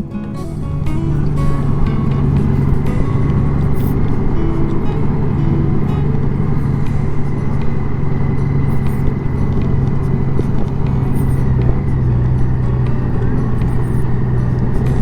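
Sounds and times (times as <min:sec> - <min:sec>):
motorcycle engine humming: 0:00.0 - 0:15.0
road rumble: 0:00.0 - 0:15.0.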